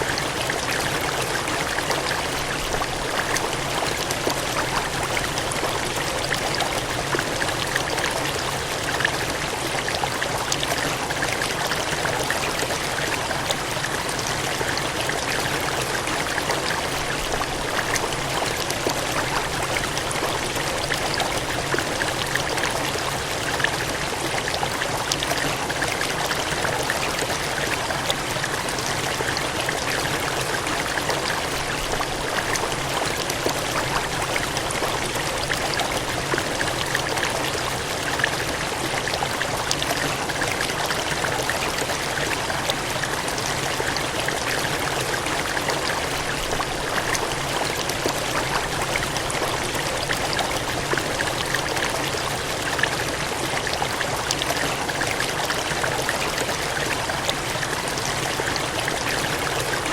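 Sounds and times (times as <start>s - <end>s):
water gushing and cascading: 0.0s - 59.9s.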